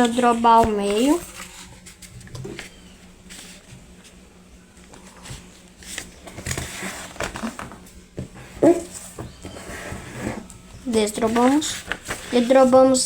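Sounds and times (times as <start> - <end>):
paper rustling and crinkling: 0.0 - 4.2, 4.8 - 7.8, 8.6 - 13.0.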